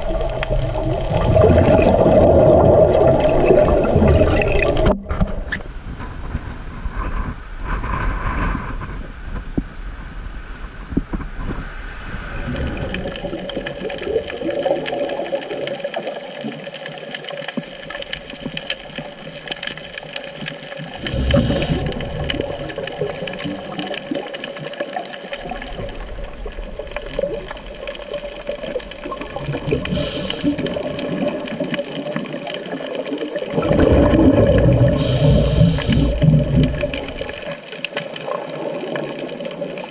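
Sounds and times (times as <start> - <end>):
regulator bubbles: 0.0 - 5.6, 12.4 - 16.5, 17.6 - 39.9
steady underwater hum: 0.0 - 39.9.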